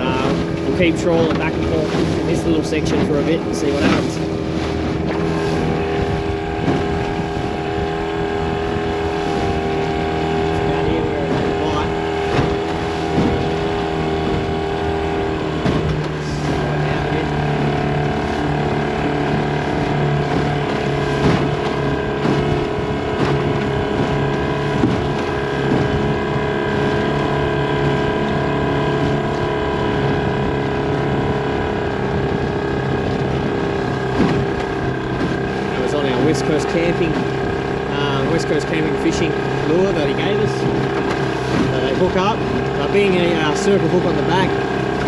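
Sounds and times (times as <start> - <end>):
hull slapping water: 0.0 - 45.0
outboard motor running: 0.0 - 45.0
water rushing past hull: 0.0 - 45.0.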